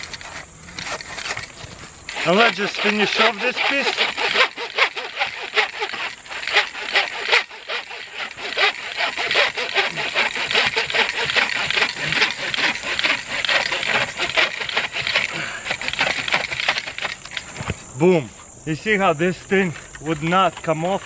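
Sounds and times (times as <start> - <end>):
saw cutting dry branch: 0.0 - 17.5.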